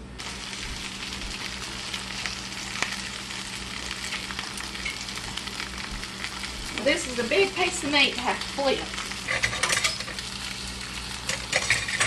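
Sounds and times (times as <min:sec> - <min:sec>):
meat sizzling with crackles: 0:00.2 - 0:12.0.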